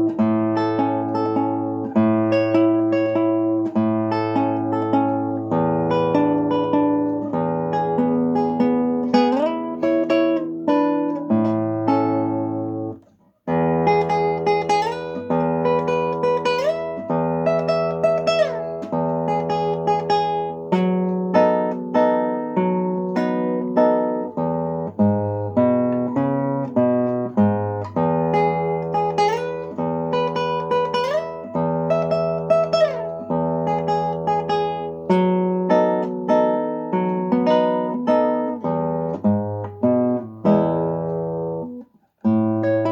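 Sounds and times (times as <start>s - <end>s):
acoustic guitar plucked melody: 0.0s - 42.9s.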